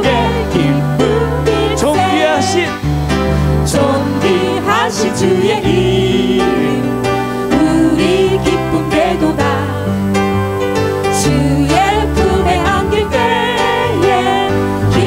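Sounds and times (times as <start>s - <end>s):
choir singing a hymn: 0.0s - 15.0s
instrumental accompaniment with bass: 0.0s - 15.0s.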